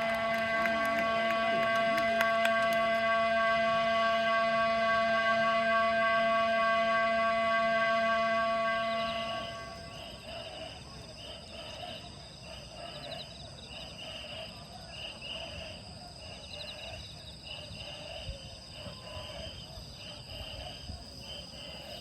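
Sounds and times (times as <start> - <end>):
night insects chirping: 0.0 - 22.0.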